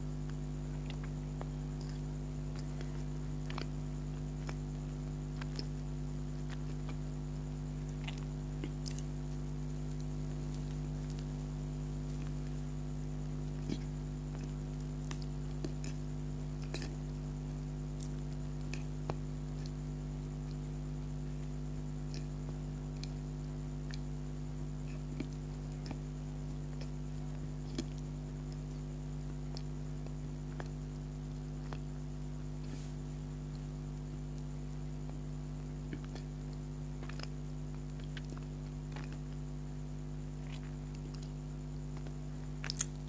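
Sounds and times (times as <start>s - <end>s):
low electrical hum: 0.0s - 43.0s
person chewing: 0.3s - 28.8s, 29.4s - 31.9s, 35.7s - 39.2s, 40.3s - 41.4s, 42.0s - 43.0s.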